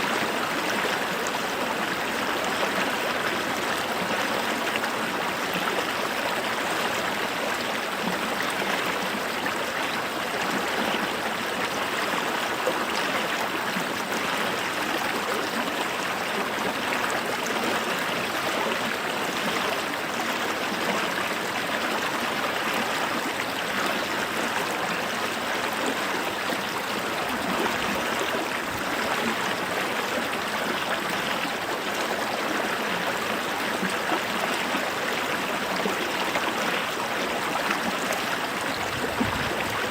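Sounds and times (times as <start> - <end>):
creek flowing over stones: 0.0 - 39.9.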